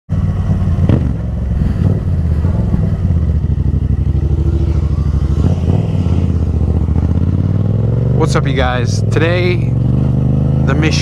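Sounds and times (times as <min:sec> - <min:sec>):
motorcycle engine running: 0:00.1 - 0:11.0.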